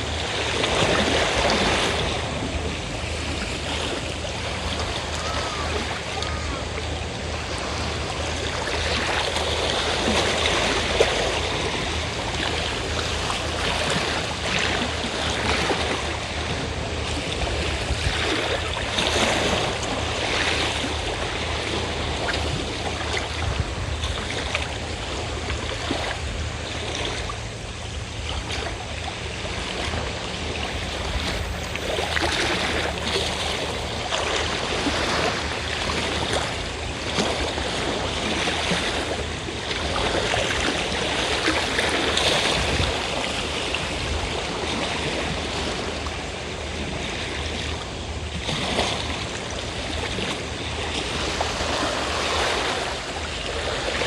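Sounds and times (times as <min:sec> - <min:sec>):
boat engine droning: 0:00.0 - 0:54.0
sea waves breaking on shore: 0:00.0 - 0:54.0.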